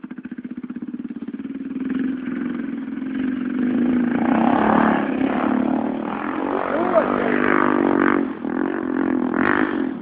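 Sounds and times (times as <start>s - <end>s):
motocross motorcycle engine: 0.0s - 10.0s.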